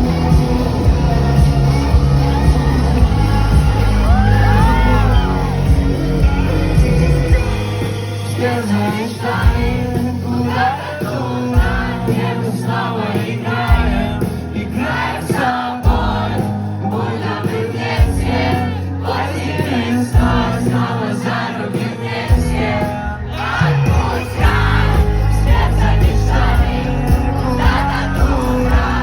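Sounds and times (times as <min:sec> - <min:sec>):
crowd singing along: 0:00.0 - 0:29.0
live rock band: 0:00.0 - 0:29.0
person singing: 0:00.0 - 0:29.0.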